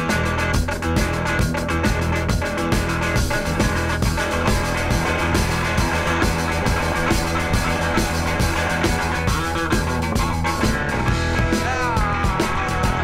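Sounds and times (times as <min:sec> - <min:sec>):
bass: 0:00.0 - 0:13.0
drum beat: 0:00.0 - 0:13.0
electric guitar: 0:00.0 - 0:13.0.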